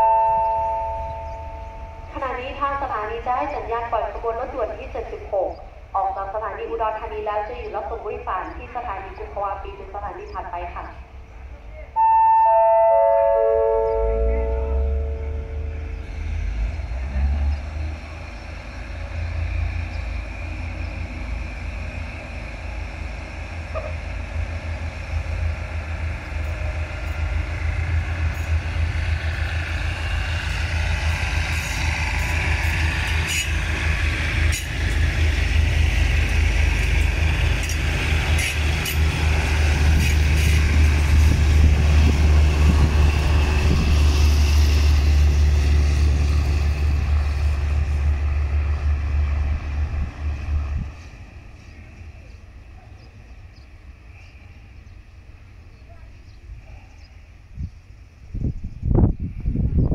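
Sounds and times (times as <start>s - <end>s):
diesel train engine drone: 0.0s - 59.9s.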